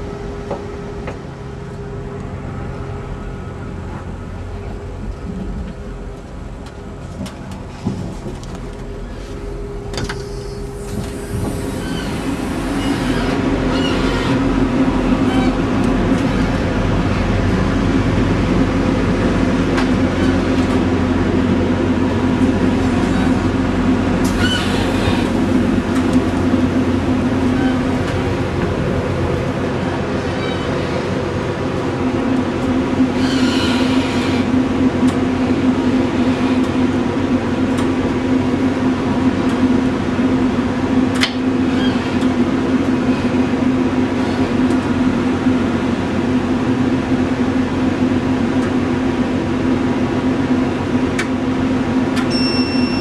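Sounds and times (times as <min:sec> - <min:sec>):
diesel engine drone: 0:00.0 - 0:53.0
train wheel running noise: 0:03.6 - 0:53.0.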